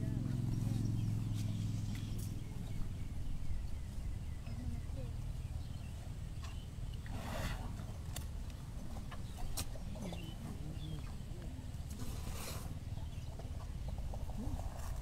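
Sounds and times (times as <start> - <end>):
rustle: 0.2 - 15.0.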